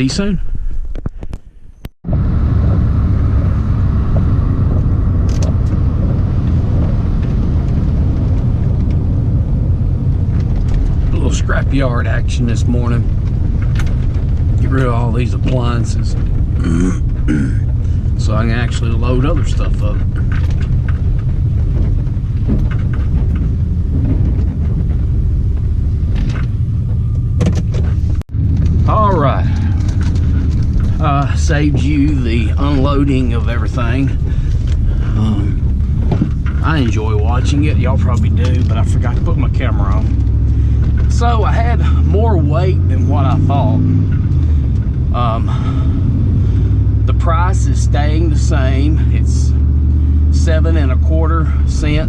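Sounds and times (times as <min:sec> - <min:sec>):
truck engine and road rumble: 0:00.0 - 0:52.0.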